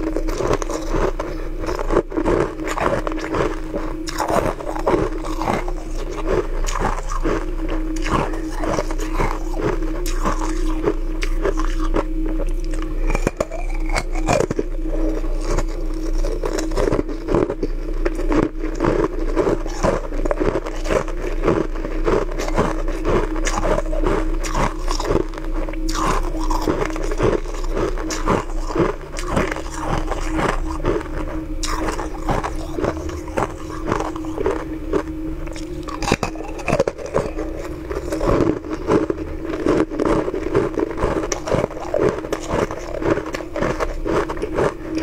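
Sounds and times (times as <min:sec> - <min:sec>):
ice crunching being chewed: 0:00.0 - 0:45.0
steady low hum: 0:00.0 - 0:45.0.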